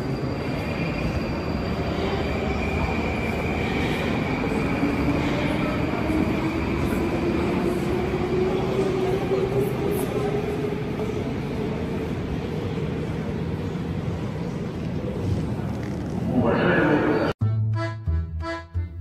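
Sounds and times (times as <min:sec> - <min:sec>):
metro train rumbling: 0:00.0 - 0:17.4.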